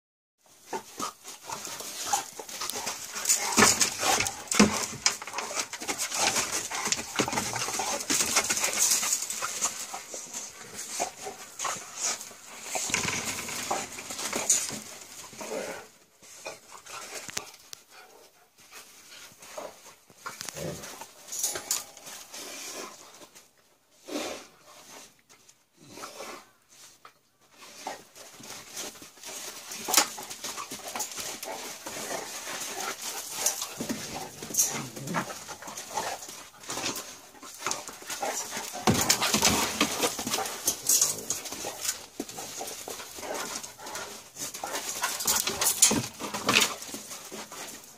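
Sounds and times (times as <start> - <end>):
dogs scuffling on dirt: 0.4 - 23.7, 24.4 - 47.9.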